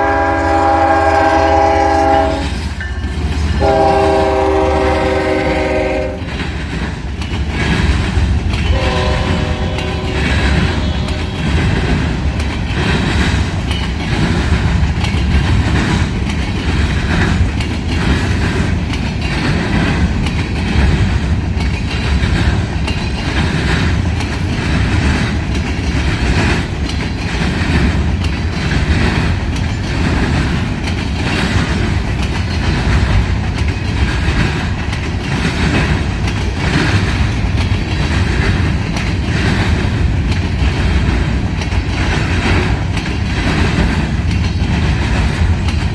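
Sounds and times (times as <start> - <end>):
freight train rumbling: 0.0 - 45.9
train wheels clacking over rail joints: 0.0 - 45.9.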